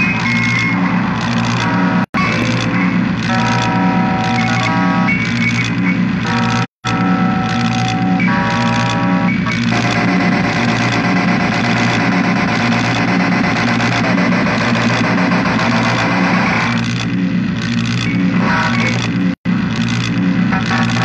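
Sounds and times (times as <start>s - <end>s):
harsh distorted noise: 0.0s - 21.0s.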